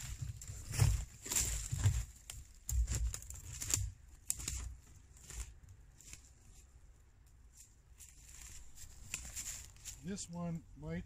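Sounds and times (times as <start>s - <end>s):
footsteps crunching through snow and leaves: 0.0s - 6.7s, 7.5s - 10.3s.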